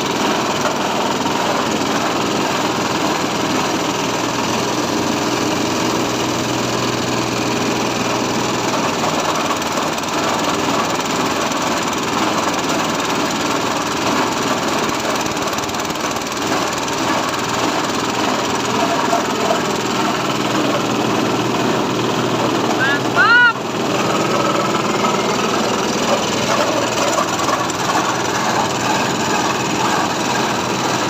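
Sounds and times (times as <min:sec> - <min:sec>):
grinder machine running: 0:00.0 - 0:31.0.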